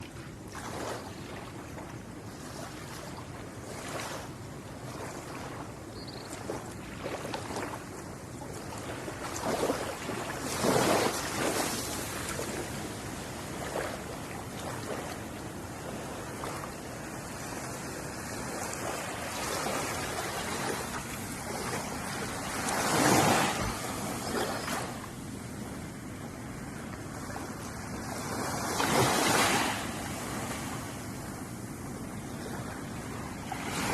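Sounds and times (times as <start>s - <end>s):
ocean waves crashing on beach: 6.4s - 33.9s.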